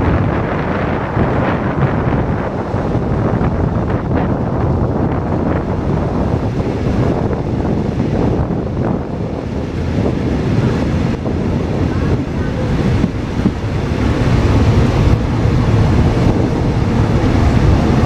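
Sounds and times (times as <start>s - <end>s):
train rumbling past: 0.0s - 18.0s
wind buffeting microphone: 0.0s - 18.0s.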